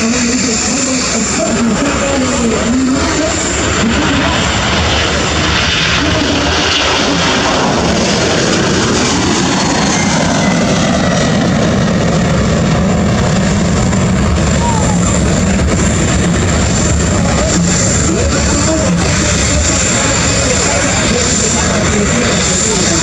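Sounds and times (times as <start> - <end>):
jet engines roaring at takeoff: 0.0 - 23.0.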